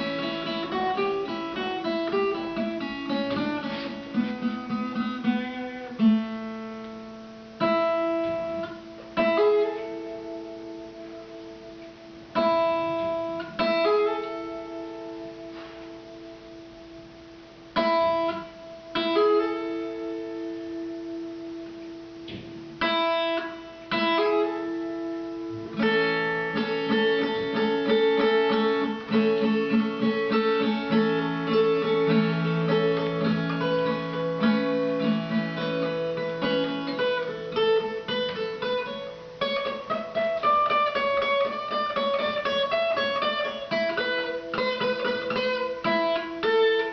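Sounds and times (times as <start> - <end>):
guitar chords ringing: 0.0 - 46.9
guitar strumming and picking: 0.0 - 46.9.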